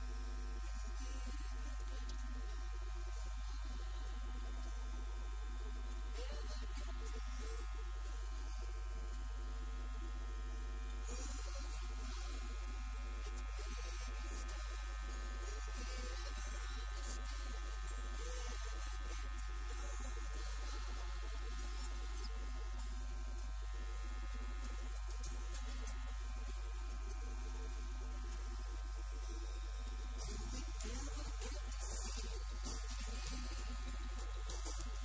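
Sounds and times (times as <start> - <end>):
electrical hum and buzz: 0.0 - 35.0
faint song with vocals: 0.0 - 35.0.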